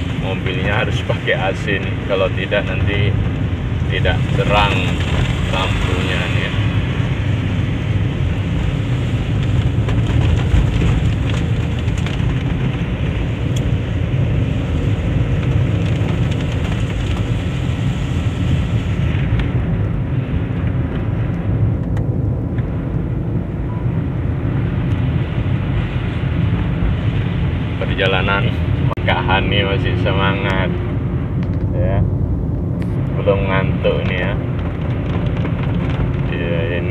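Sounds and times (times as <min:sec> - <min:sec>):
engine and tyre rumble: 0:00.0 - 0:36.9.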